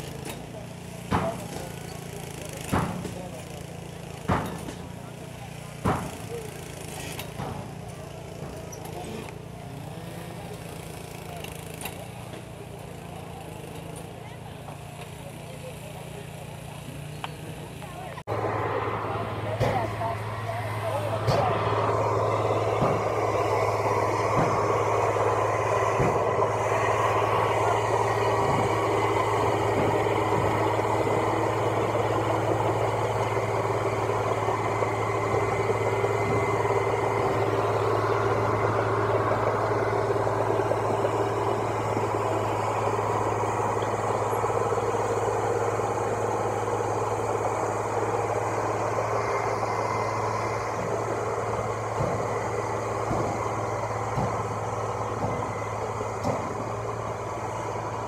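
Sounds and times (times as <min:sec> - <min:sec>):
machine engine droning: 0:00.0 - 0:58.0.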